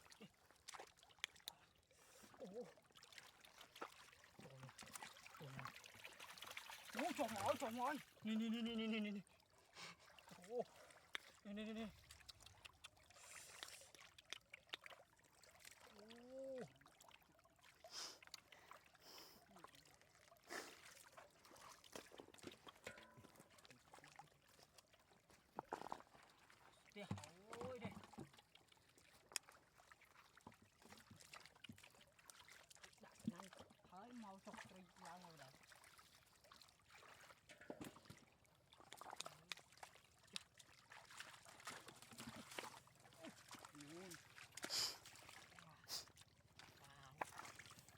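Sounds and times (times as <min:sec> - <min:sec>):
small splashes: 0:00.0 - 0:47.9
water trickling and sloshing: 0:00.0 - 0:47.9.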